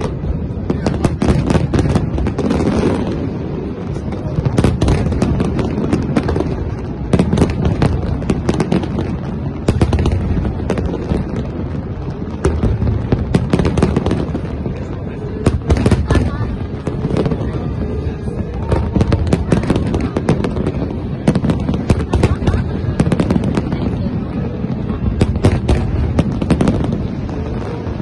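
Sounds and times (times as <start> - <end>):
continuous low rumble: 0.0 - 28.0
fireworks bangs and crackles: 0.0 - 28.0.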